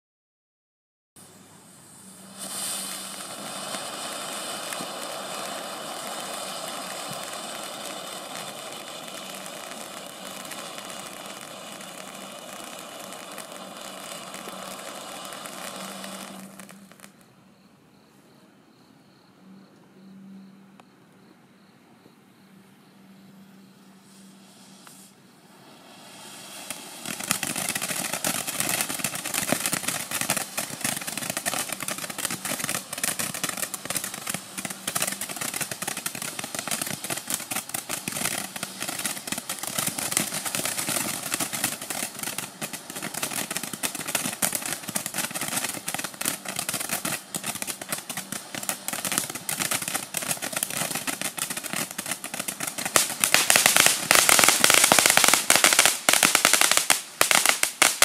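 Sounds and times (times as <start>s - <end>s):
firework fountain hissing and crackling: 1.2s - 17.7s, 23.9s - 58.0s.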